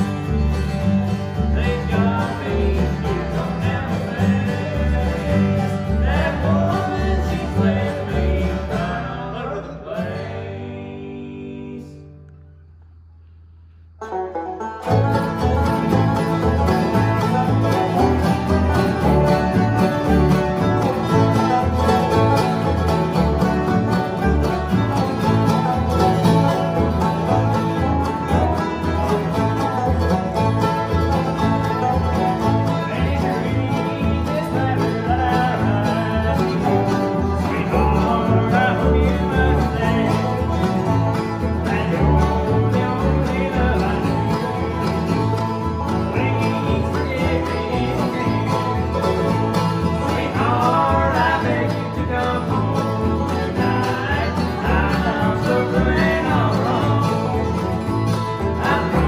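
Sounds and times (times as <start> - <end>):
bluegrass band playing: 0.0 - 12.1, 13.5 - 59.0
upright bass plucking: 0.0 - 59.0.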